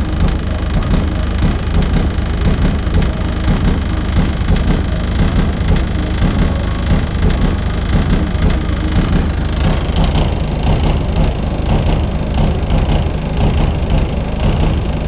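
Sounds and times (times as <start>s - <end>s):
deep subwoofer bass rumble: 0.0s - 15.0s.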